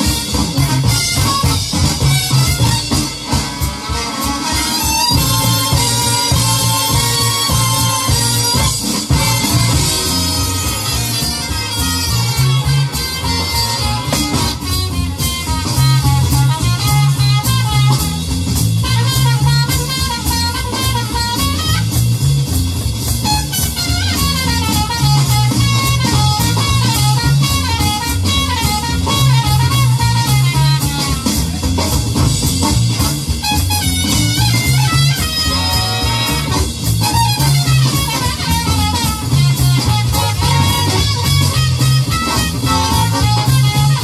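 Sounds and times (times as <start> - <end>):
repeating bass line: 0.0 - 3.9, 4.8 - 44.0
up-tempo jazz music: 0.0 - 44.0.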